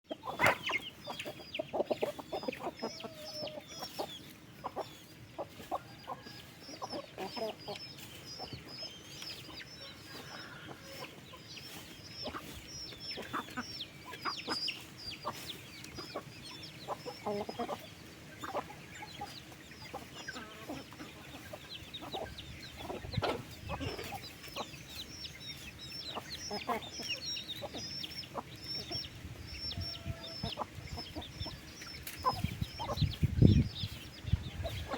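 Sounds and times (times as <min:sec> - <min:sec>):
chickens clucking and calling: 0:00.1 - 0:34.9.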